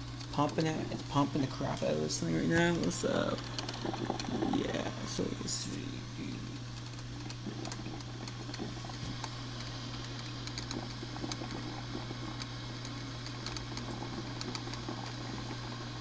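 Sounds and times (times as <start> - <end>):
coffee maker popping and crackling: 0.0 - 16.0
low hum: 0.0 - 16.0.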